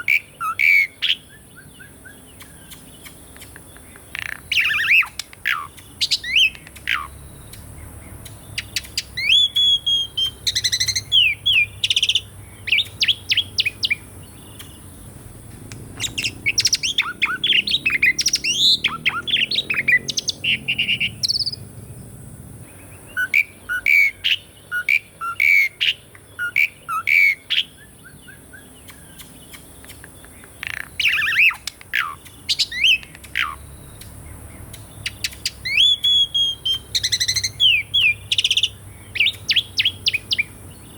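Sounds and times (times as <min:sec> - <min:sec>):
starling singing whistles and chirps: 0:00.0 - 0:21.7, 0:22.6 - 0:40.9.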